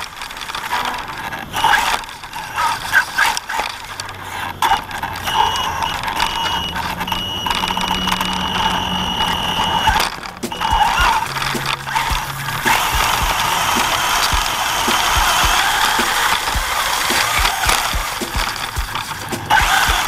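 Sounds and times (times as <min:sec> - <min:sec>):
rc car motor whining: 0:00.0 - 0:20.0
steady high squeal: 0:00.6 - 0:20.0.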